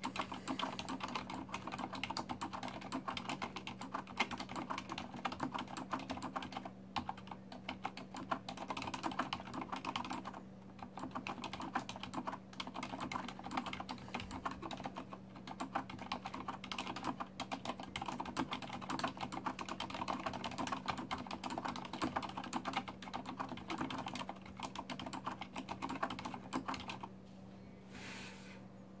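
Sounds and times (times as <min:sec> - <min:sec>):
fast typing on mechanical keyboard: 0:00.0 - 0:27.1.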